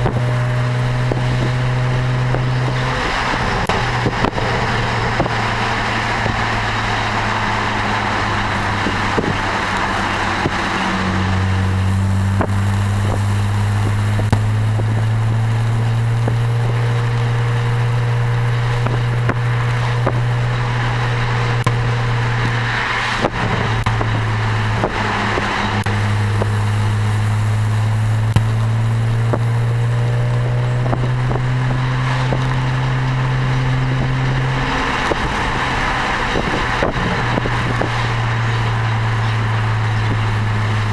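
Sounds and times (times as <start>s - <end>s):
car exhaust drone: 0.0s - 40.9s
road and wind noise: 0.0s - 40.9s.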